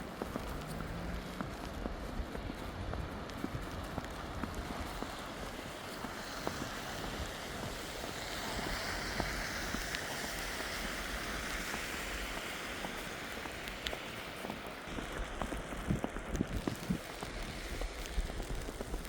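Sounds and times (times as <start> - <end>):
footsteps in slushy snow: 0.0 - 19.0
wind and wet snow hiss: 0.0 - 19.0.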